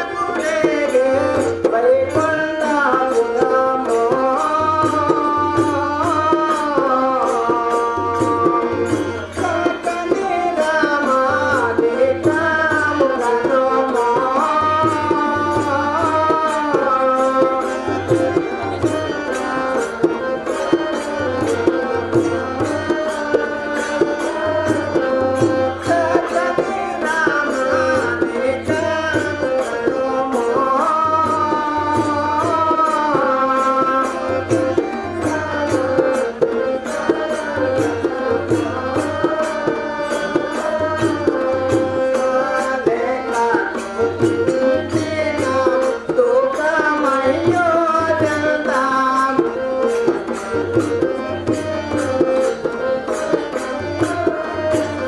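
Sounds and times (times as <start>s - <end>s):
tabla beat: 0.0s - 55.0s.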